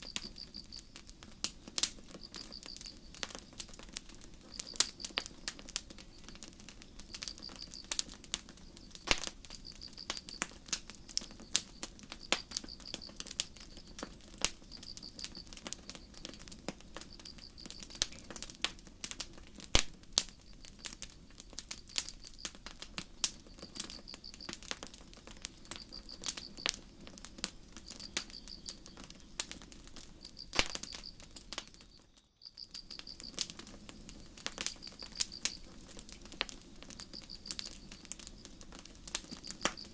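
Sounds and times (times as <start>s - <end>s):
crickets chirping: 0.0s - 18.3s, 19.9s - 39.9s
campfire crackling: 0.0s - 39.9s.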